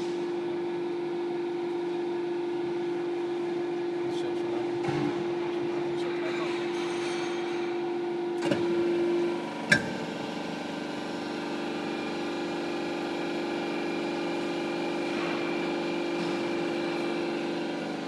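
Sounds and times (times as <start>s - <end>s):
hydraulic pump humming: 1.6s - 18.0s.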